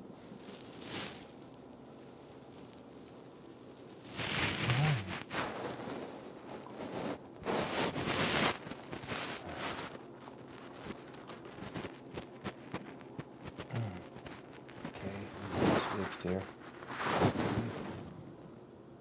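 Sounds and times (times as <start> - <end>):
rustling and handling noise: 0.0 - 18.4.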